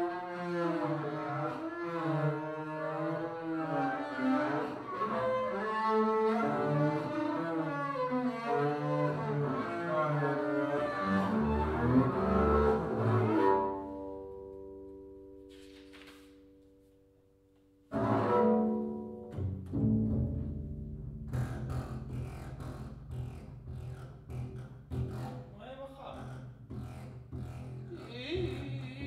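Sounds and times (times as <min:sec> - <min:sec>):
bowed double bass melody: 0:00.0 - 0:15.5, 0:17.9 - 0:29.0.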